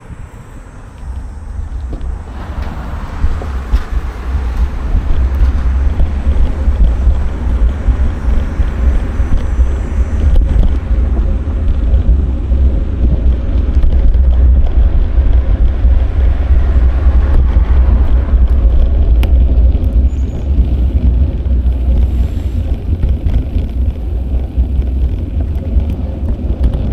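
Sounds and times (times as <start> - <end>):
road and traffic noise: 0.0 - 26.9
wind buffeting microphone: 0.0 - 26.9.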